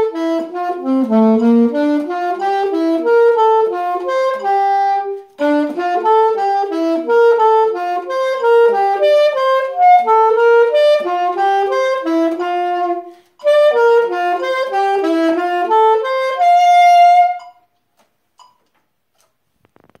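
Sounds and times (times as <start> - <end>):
alto saxophone playing: 0.0 - 17.7.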